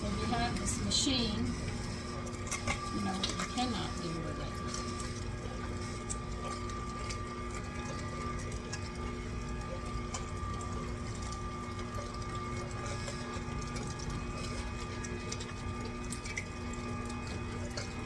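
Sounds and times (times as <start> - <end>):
electric meat grinder running: 0.0 - 18.0.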